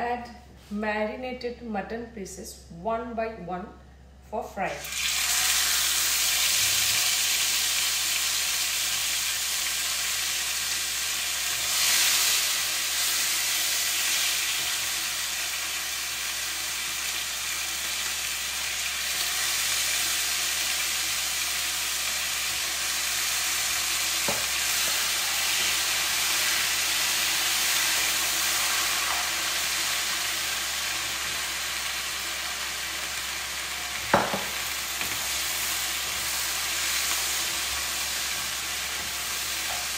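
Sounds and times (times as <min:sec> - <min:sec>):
meat sizzling in a pan: 0:04.8 - 0:39.9.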